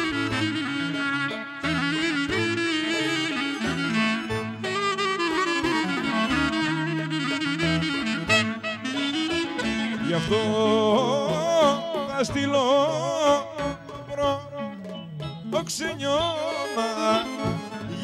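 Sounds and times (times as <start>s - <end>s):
band accompaniment with bass line: 0.0s - 18.0s
folk clarinet melody: 0.0s - 18.0s.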